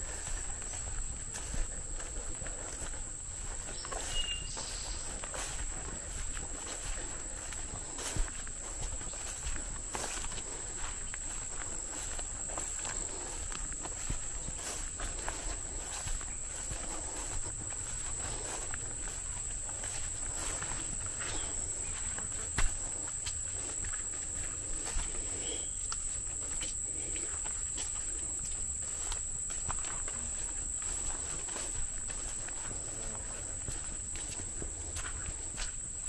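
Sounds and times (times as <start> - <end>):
footsteps swishing through grass: 0.0 - 36.0
high-pitched insect drone: 0.0 - 36.0.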